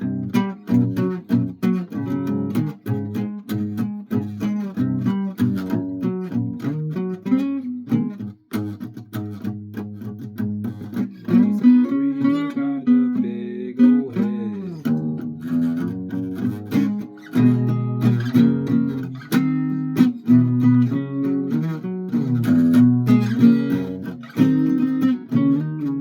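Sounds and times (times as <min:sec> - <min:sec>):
guitar notes plucked: 0:00.0 - 0:26.0.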